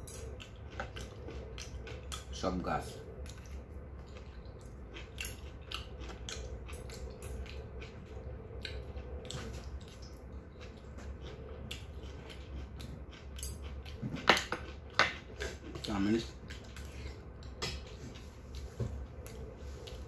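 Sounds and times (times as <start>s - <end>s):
steady low hum: 0.0s - 20.0s
person chewing: 0.1s - 2.4s, 3.0s - 20.0s.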